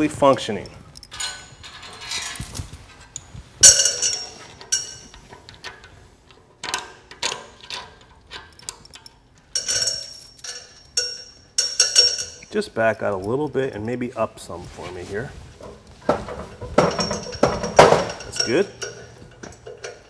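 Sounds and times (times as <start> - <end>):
metal clanks and clinks: 0.0 - 14.0, 15.6 - 20.0
chain rattling: 0.3 - 6.0, 6.7 - 14.0, 15.6 - 20.0.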